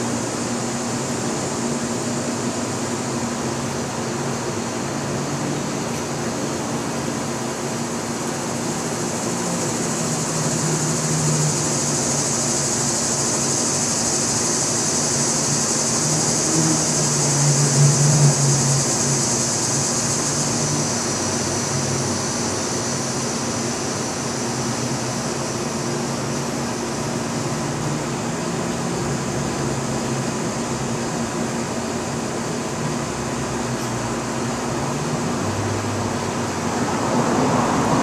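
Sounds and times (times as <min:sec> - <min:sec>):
distant engine drone: 0:00.0 - 0:38.0
steady high hiss: 0:00.0 - 0:38.0.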